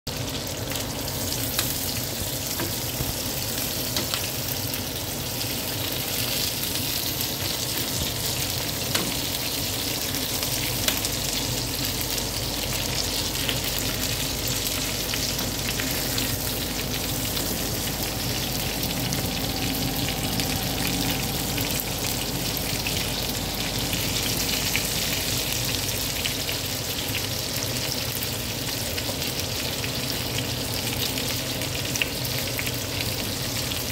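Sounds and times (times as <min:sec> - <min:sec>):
meat sizzling in hot oil: 0:00.1 - 0:33.9.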